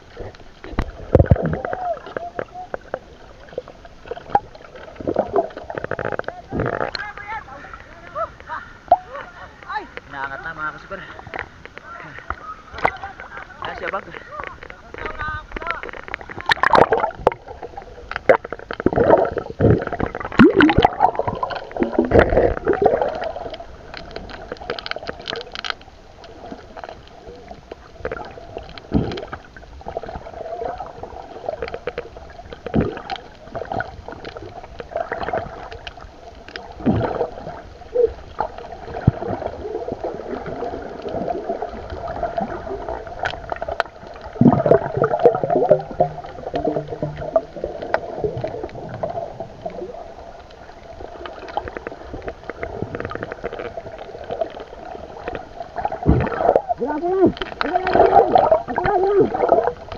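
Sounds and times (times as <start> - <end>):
water rushing underwater: 0.0 - 59.9.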